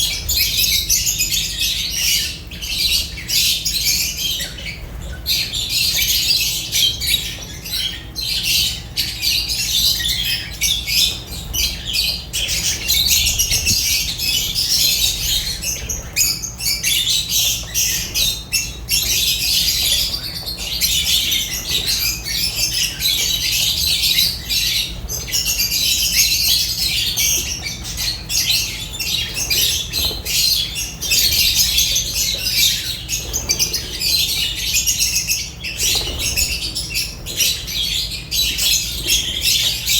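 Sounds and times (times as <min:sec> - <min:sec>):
lovebirds chattering and squawking: 0:00.0 - 0:39.9.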